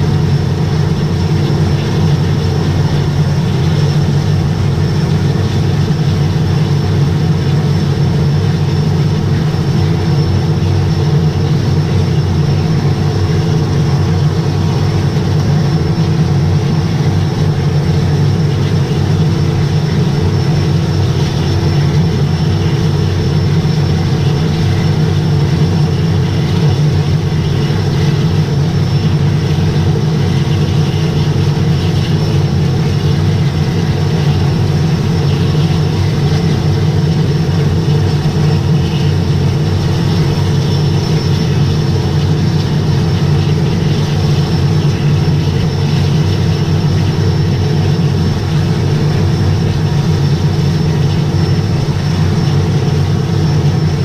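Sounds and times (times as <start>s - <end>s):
turboprop engine humming: 0.0s - 54.0s.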